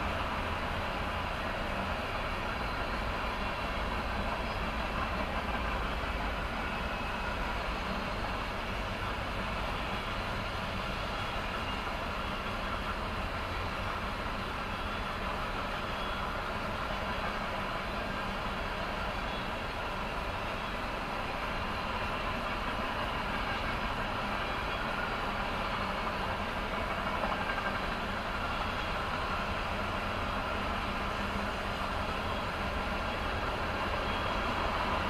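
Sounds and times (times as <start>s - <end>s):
freight train rolling past: 0.0s - 35.0s
wheels rumbling on rails: 0.0s - 35.0s.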